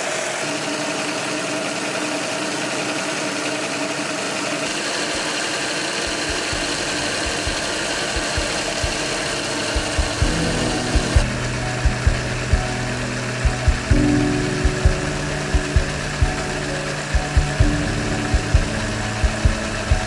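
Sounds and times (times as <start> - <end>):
model engines running: 0.0 - 20.0.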